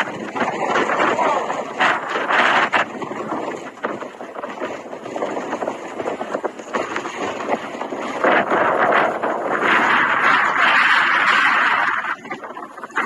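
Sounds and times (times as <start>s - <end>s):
blizzard wind buffeting microphone: 0.0s - 13.0s.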